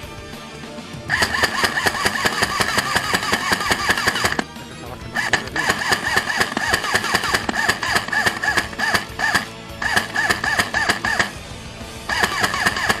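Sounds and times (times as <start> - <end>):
fast beat music with synth tone: 1.1 - 11.4, 12.1 - 13.0.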